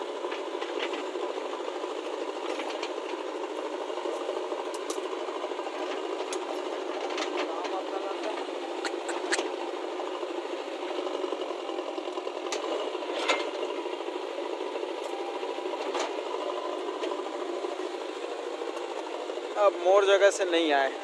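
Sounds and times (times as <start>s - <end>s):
rattling machine engine: 0.0s - 21.0s.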